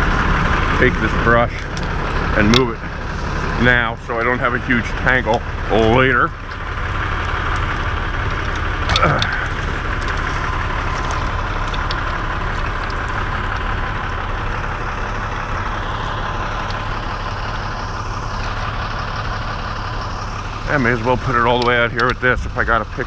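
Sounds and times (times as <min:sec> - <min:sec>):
steady whine: 0:00.0 - 0:23.0
truck engine idling: 0:00.0 - 0:23.0.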